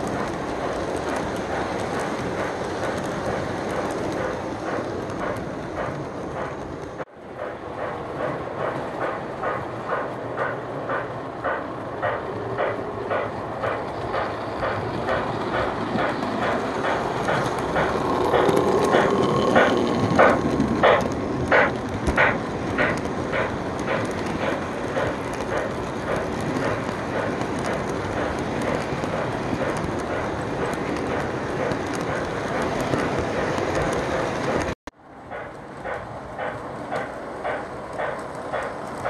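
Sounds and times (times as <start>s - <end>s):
model train rolling rumble: 0.0s - 39.0s.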